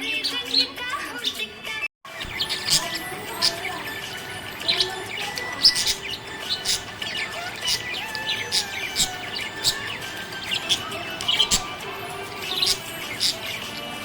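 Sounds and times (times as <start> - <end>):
budgies chirping: 0.0 - 14.0.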